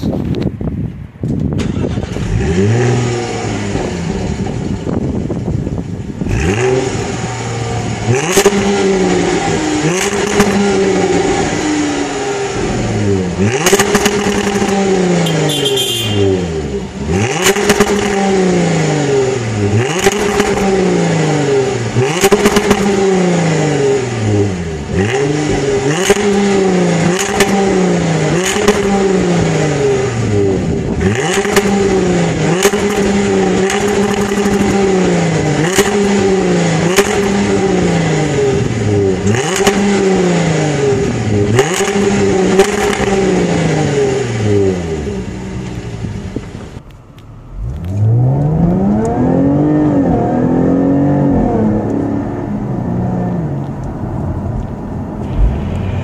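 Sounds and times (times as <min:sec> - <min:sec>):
exhaust crack: 0:01.2 - 0:56.0
car engine revving: 0:01.6 - 0:56.0.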